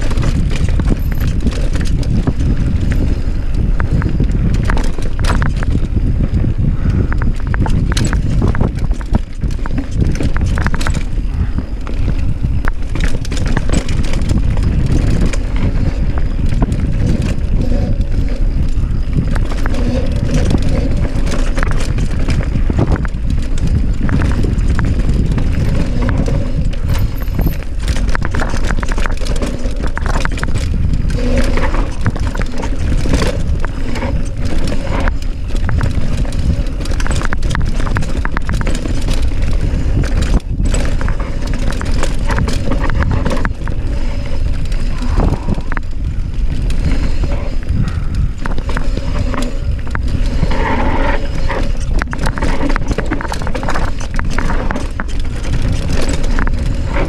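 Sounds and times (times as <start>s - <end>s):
bike rattling and knocking: 0.0s - 57.0s
wind and tyre rumble: 0.0s - 57.0s.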